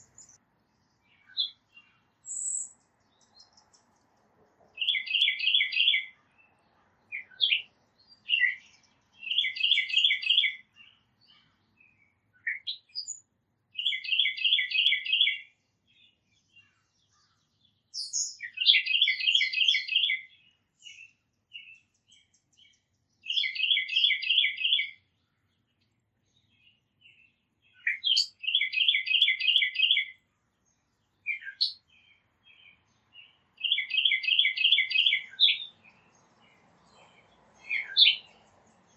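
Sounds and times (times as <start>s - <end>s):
small birds chirping: 0.0s - 38.9s
songbird trilling song: 0.0s - 38.9s.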